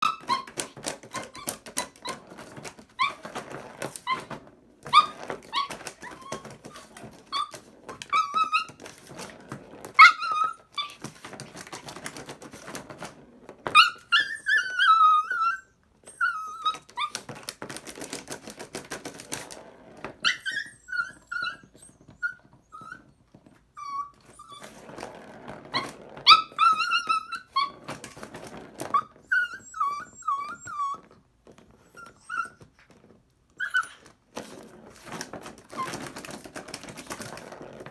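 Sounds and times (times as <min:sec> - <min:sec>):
puppy whining and whimpering: 0:00.0 - 0:37.9.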